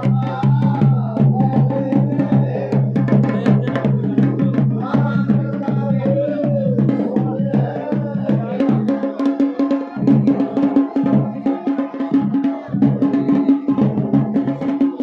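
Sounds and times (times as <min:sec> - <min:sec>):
fast folk drumming: 0:00.0 - 0:15.0.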